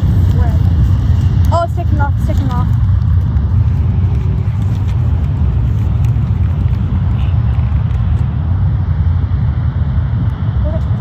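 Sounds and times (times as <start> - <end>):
jet engines rumbling at takeoff: 0.0 - 11.0.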